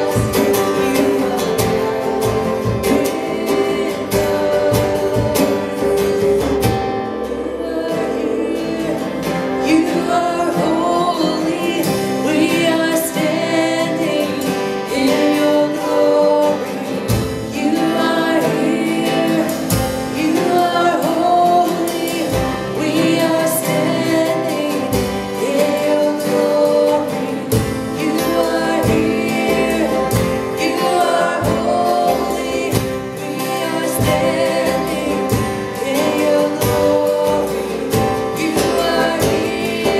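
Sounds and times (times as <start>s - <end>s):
acoustic guitars strumming: 0.0s - 39.9s
woman singing: 0.0s - 39.9s.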